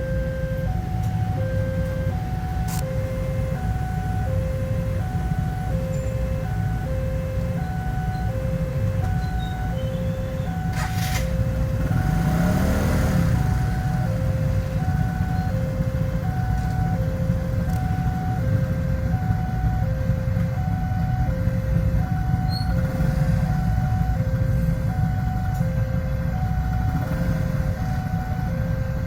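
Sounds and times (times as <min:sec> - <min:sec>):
low rumble of road traffic: 0:00.0 - 0:29.0.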